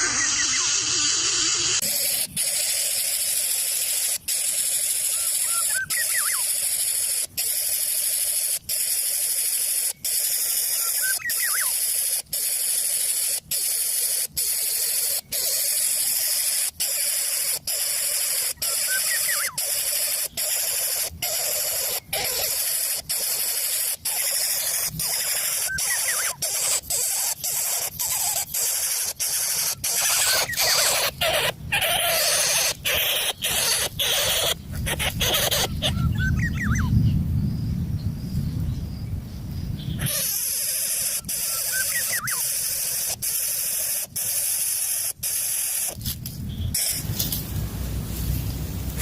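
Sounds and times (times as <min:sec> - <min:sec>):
steady high hiss: 0:00.0 - 0:36.3, 0:37.6 - 0:49.0.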